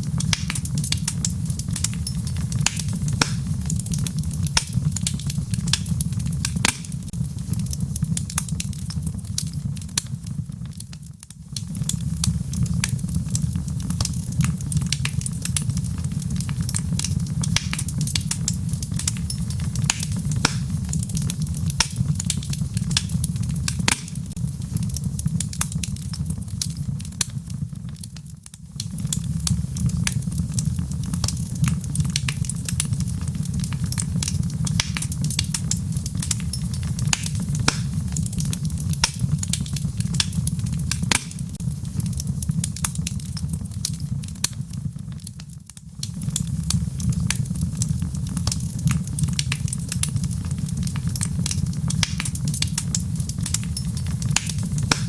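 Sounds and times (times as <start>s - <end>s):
logs crackling and popping in fire: 0.0s - 55.0s.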